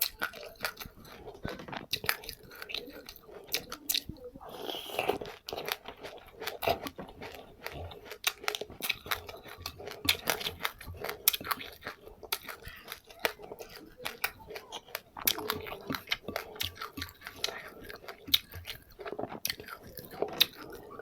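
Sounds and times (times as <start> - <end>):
person chewing crunchy seeds: 0.0 - 21.0.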